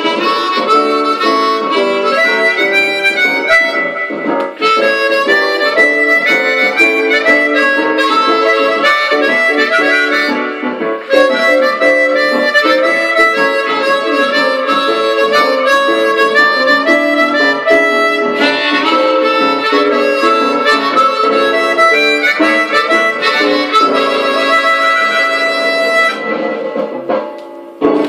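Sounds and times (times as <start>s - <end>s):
blues harmonica playing chords: 0.0s - 28.0s.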